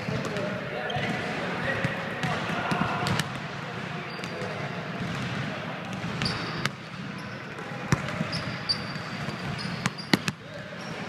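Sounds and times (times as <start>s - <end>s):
basketball bouncing on gym floor: 0.0s - 10.5s
sneakers squeaking: 0.0s - 11.0s.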